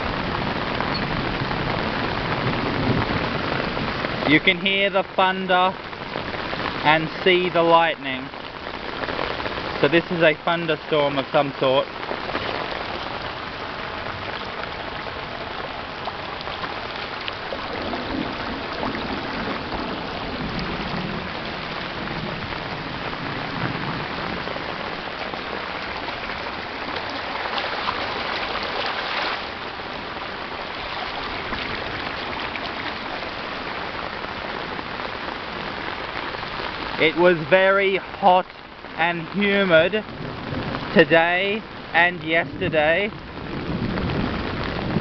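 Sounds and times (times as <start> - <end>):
heavy rain pouring: 0.0 - 45.0
water rushing along gutter: 0.0 - 45.0.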